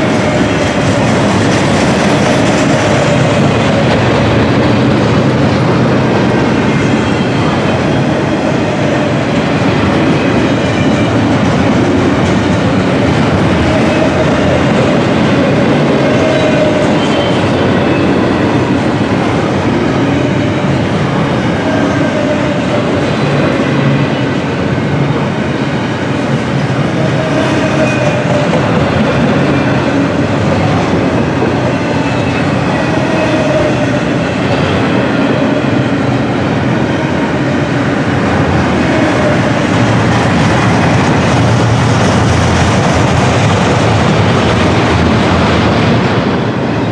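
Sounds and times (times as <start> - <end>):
steel wheels rumbling on rails: 0.0 - 46.9.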